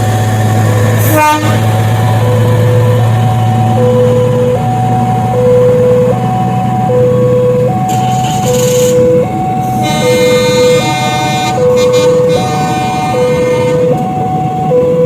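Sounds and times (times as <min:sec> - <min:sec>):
low engine drone: 0:00.0 - 0:15.0
level-crossing two-tone alarm: 0:02.1 - 0:15.0.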